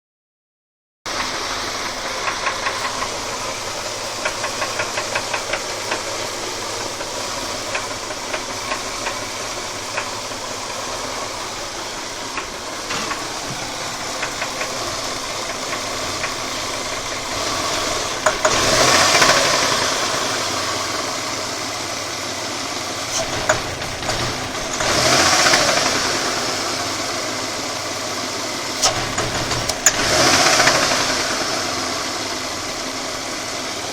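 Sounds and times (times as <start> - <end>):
car engine knocking: 1.1 - 33.9
engine revving: 1.1 - 33.9.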